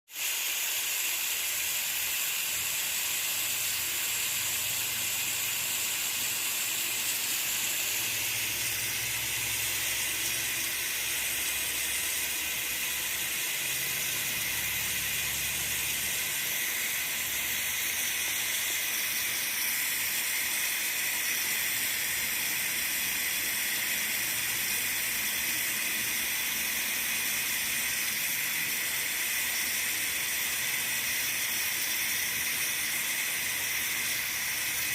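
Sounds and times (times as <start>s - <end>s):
pressure cooker hissing steam: 0.1s - 34.9s.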